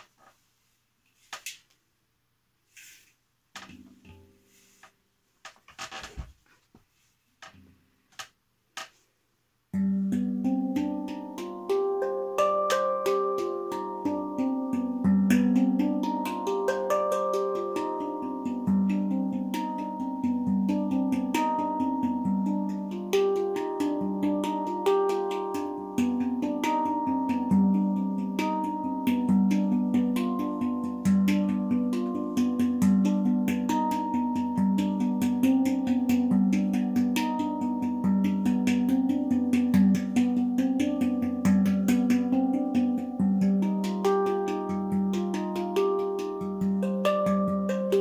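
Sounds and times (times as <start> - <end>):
handpan played with hands: 3.6 - 4.8, 9.8 - 48.0.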